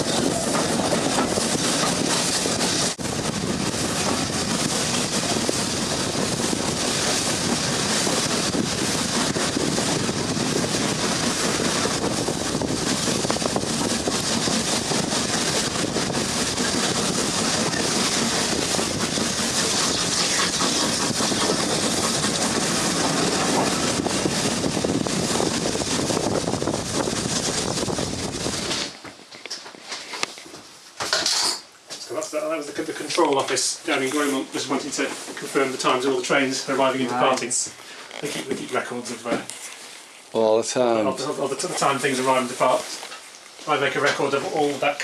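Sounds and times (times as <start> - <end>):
train running: 0.0 - 30.0, 32.2 - 39.8, 41.1 - 45.0.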